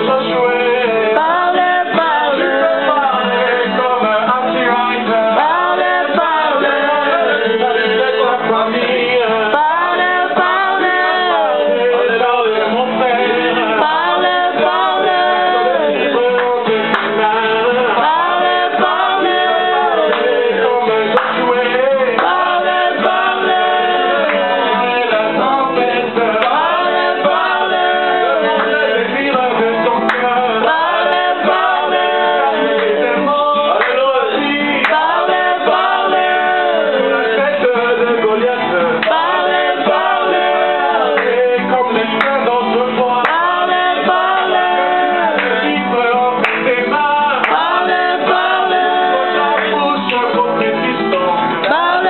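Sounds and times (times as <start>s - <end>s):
group singing a religious song: 0.0s - 52.0s
man singing: 0.0s - 52.0s.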